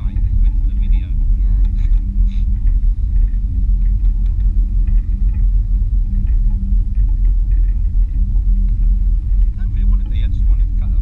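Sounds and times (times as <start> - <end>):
constant low hum: 0.0 - 11.0
wind buffeting microphone: 0.0 - 11.0.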